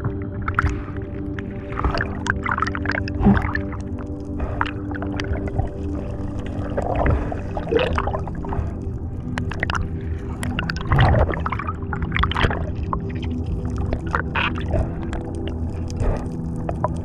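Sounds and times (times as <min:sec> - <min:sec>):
steady low hum: 0:00.0 - 0:17.0
water gurgling and bubbling: 0:00.0 - 0:17.0.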